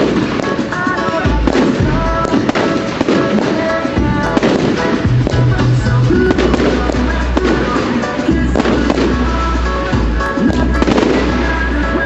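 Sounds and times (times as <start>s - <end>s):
fireworks bangs and crackles: 0.0s - 12.0s
loud music: 0.0s - 12.0s.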